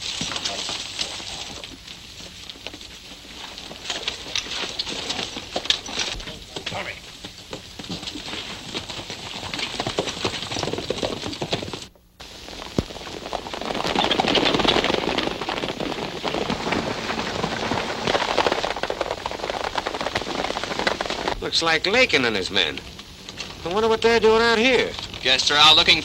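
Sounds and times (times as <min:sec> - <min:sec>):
film soundtrack hiss: 0:00.0 - 0:10.0, 0:11.5 - 0:26.0
galloping horses hoofbeats: 0:00.0 - 0:26.0.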